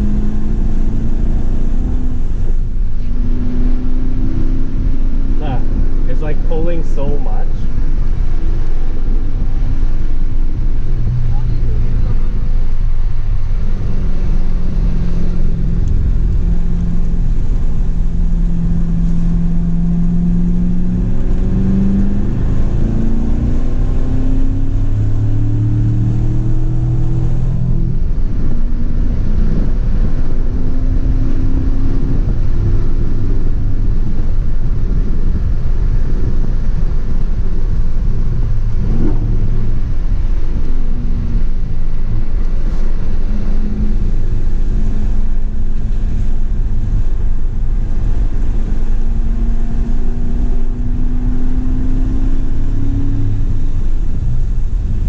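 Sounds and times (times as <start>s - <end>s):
car engine accelerating: 0.0s - 55.0s
low rumble: 0.0s - 55.0s.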